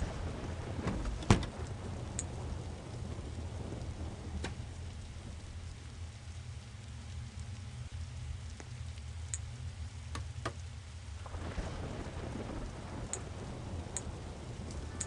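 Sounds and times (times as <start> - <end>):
low rumble: 0.0 - 15.0
rain-like noise: 0.0 - 15.0.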